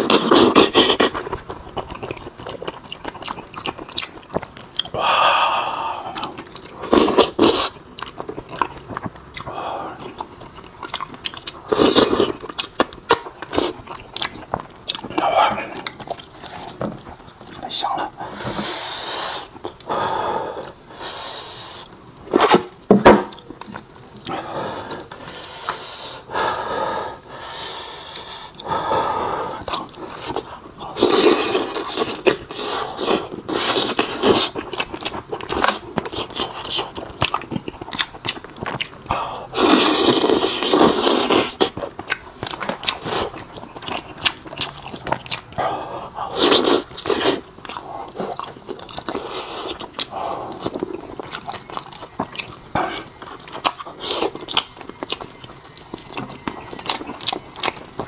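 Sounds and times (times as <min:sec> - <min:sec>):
wet chewing and smacking: 0:00.0 - 0:05.0, 0:05.7 - 0:26.4, 0:29.5 - 0:58.0.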